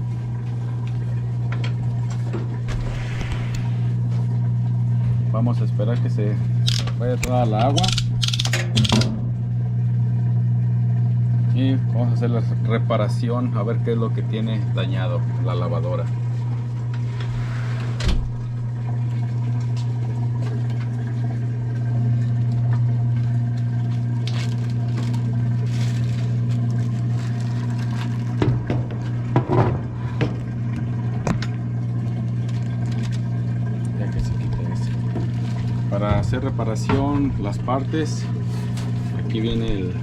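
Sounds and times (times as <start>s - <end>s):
washing machine pump humming: 0.0s - 40.0s.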